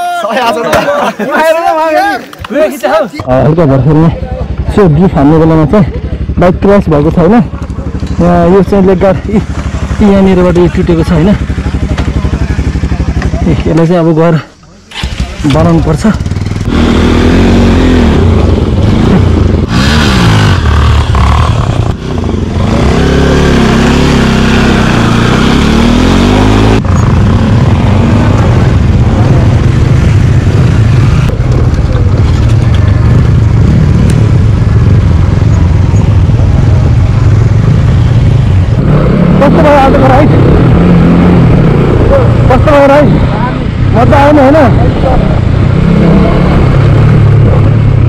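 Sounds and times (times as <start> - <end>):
motorcycle engine revving: 3.2 - 48.0.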